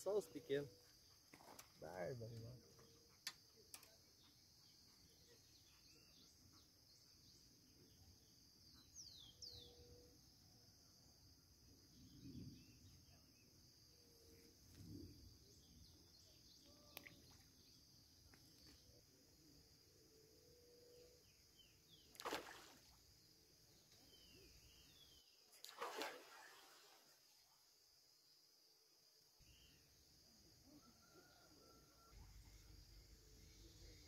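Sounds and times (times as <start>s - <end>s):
high-pitched insect chorus: 0.0s - 2.2s, 2.8s - 34.0s.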